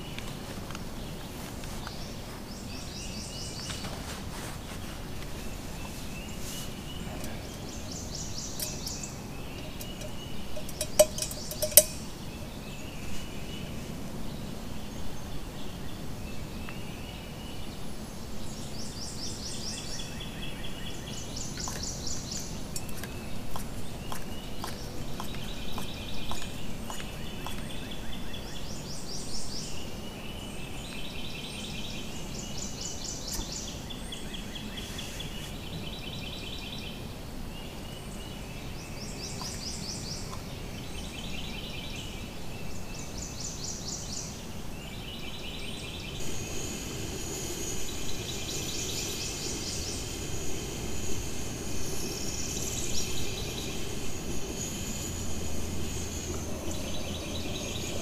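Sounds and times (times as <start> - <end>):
outdoor background hiss: 0.0 - 58.0
songbirds trilling: 0.0 - 58.0.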